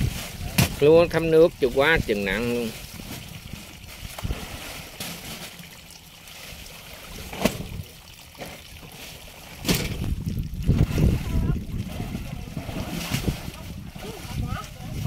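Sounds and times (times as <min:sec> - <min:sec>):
muddy water sloshing: 0:00.0 - 0:15.0.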